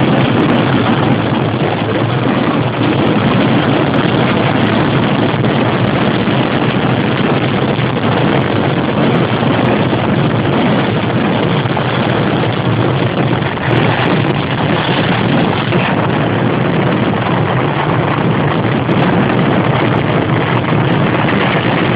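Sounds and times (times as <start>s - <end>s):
firecrackers rumbling barrage: 0.0s - 21.9s.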